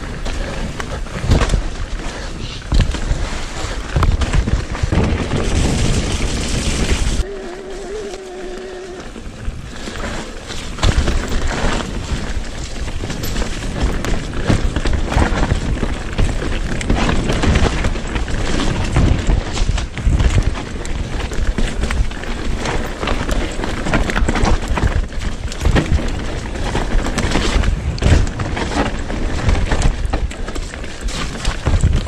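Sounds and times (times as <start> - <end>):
bike rattling and knocking: 0.0 - 7.3, 8.8 - 32.0
tyres rumbling over dirt: 0.0 - 32.0.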